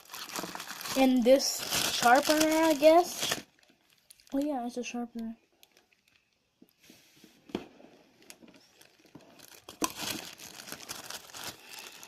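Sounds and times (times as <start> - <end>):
plastic packaging crinkling: 0.0 - 6.5, 8.2 - 12.0.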